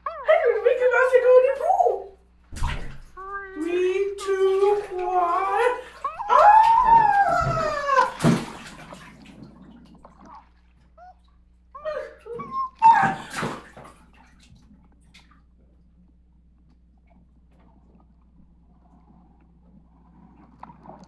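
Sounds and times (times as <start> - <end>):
water splashing: 0.4 - 21.0.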